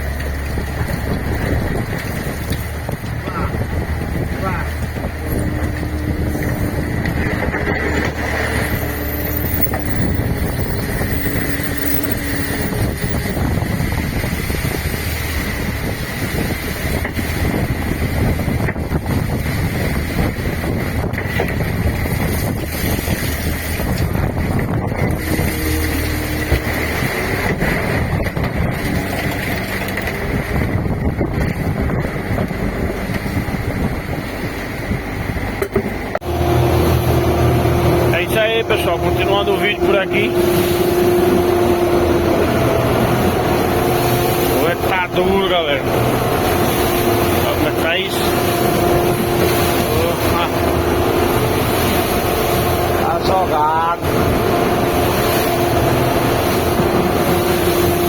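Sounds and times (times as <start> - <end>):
boat engine running: 0.0 - 58.0
wind buffeting microphone: 0.0 - 58.0.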